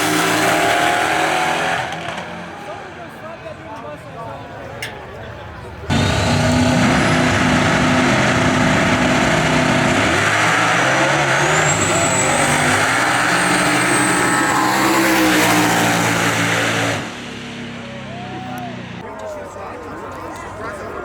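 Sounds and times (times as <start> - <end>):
drag racing car engines: 0.0 - 21.0.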